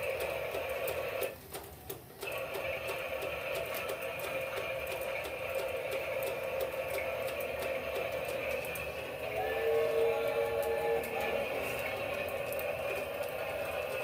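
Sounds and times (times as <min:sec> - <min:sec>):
toy train motor whirring: 0:00.0 - 0:01.4, 0:02.2 - 0:14.0
rapid clicking: 0:00.0 - 0:14.0.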